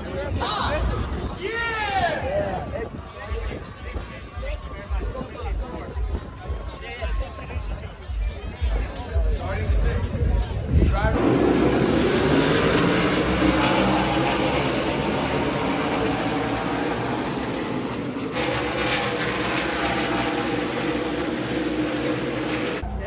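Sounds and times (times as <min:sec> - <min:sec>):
race cars passing: 0:02.0 - 0:23.0.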